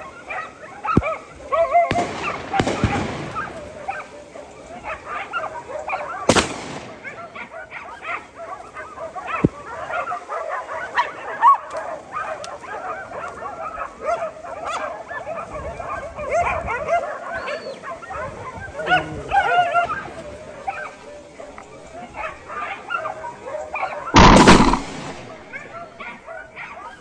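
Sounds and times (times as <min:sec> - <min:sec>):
dogs barking and yelping: 0:00.0 - 0:27.0.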